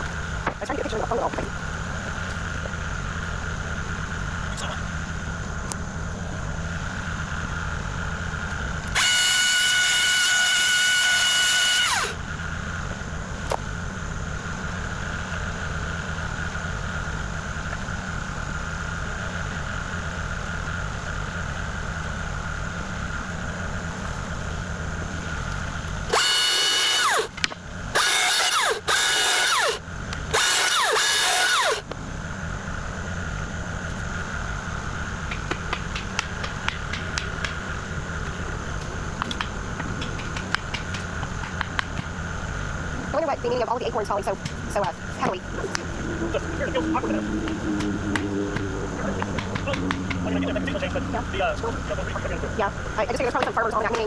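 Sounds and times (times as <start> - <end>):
excavator diesel engine running: 0.0 - 54.0
hydraulic whine: 0.0 - 54.0.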